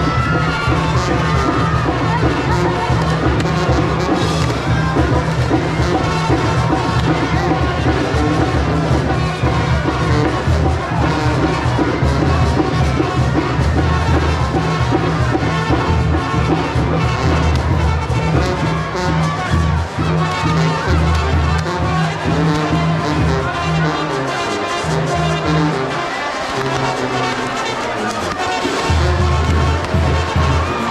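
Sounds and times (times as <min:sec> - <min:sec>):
band music with brass and drums: 0:00.0 - 0:30.9.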